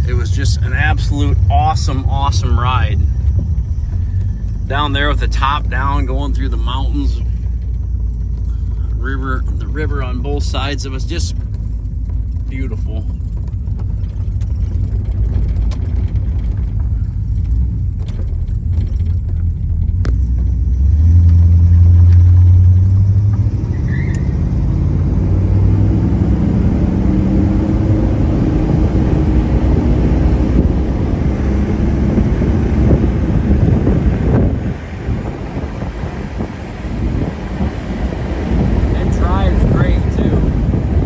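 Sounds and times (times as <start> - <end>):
car engine rumbling: 0.0 - 41.0.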